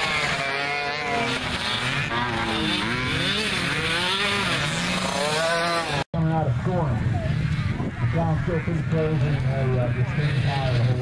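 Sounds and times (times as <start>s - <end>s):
quad engines revving: 0.0s - 11.0s.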